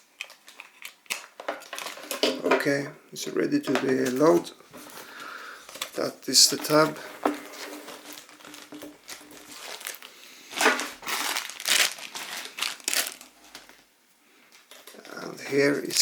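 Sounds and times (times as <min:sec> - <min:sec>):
plastic packaging crinkling: 0:00.0 - 0:02.8, 0:03.6 - 0:13.9, 0:14.5 - 0:16.0.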